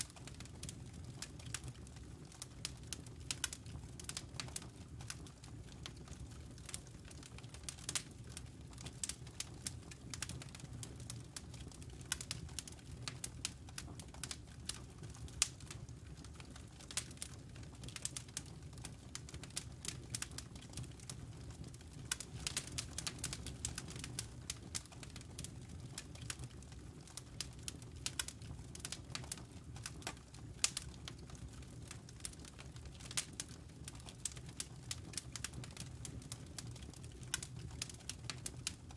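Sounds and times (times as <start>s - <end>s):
campfire embers crackling: 0.0s - 38.9s.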